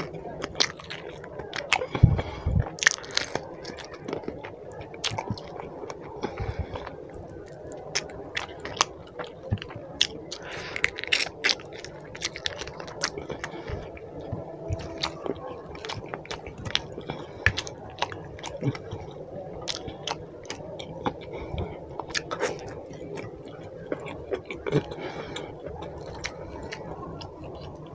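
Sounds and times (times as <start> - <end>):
person chewing food: 0.0 - 27.9.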